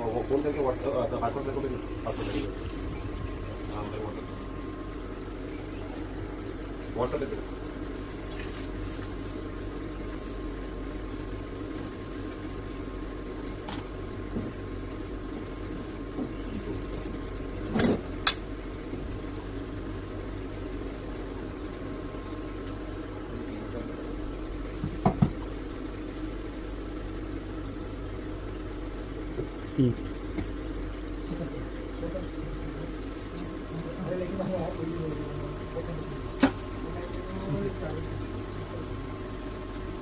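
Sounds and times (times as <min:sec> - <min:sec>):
electrical machine hum: 0:00.0 - 0:40.0.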